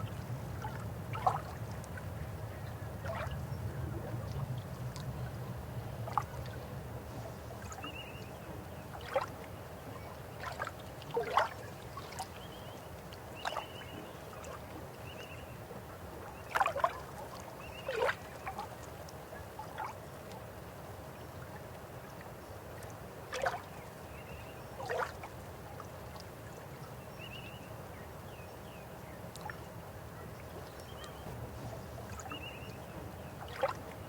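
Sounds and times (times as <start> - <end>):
river water flowing: 0.0 - 34.0.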